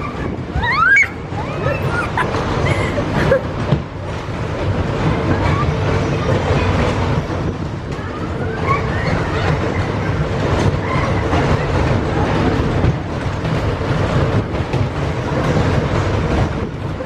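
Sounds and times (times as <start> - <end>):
fairground ride rumble and clatter: 0.0 - 17.0.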